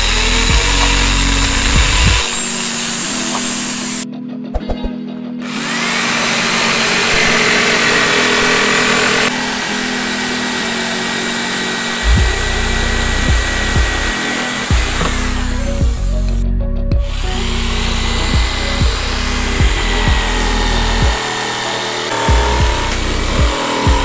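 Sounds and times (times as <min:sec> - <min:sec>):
electric jigsaw sawing board: 0:00.0 - 0:04.0, 0:05.4 - 0:16.4, 0:17.1 - 0:24.0.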